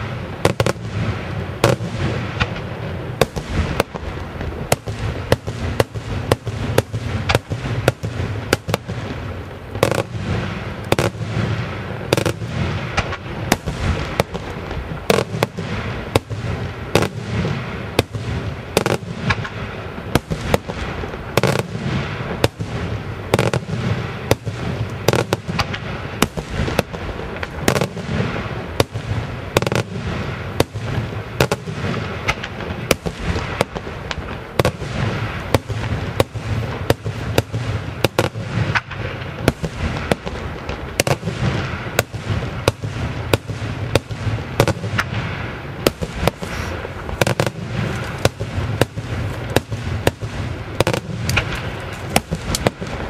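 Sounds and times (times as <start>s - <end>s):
fireworks bursting with sharp bangs: 0.0s - 53.0s.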